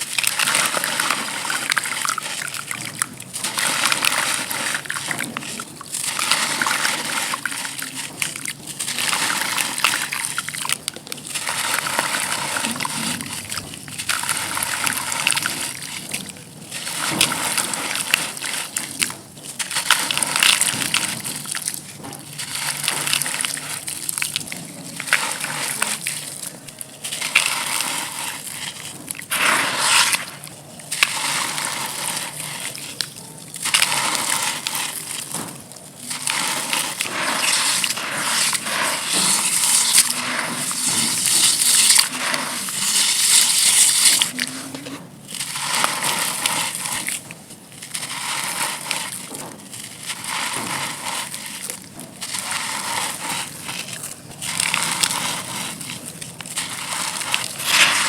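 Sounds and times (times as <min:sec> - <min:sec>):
dry clay dirt crunching: 0:00.0 - 0:58.0.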